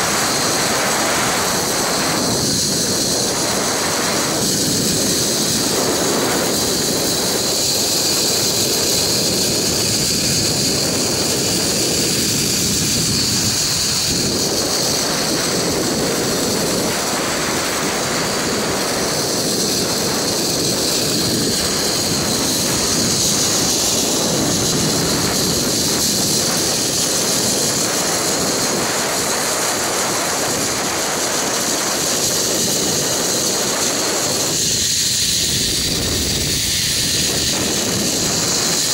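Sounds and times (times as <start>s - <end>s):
trolley wheels whirring on cable: 0.0s - 38.9s
wind buffeting microphone: 0.0s - 38.9s.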